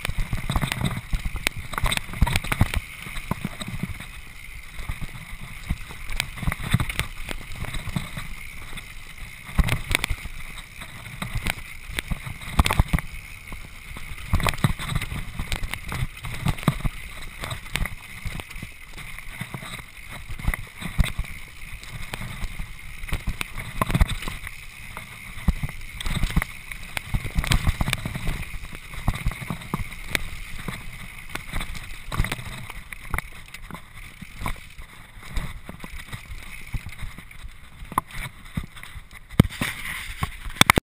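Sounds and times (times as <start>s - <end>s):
bike knocking and rattling: 0.0s - 40.8s
bike tyres rumbling on stones: 0.0s - 40.8s.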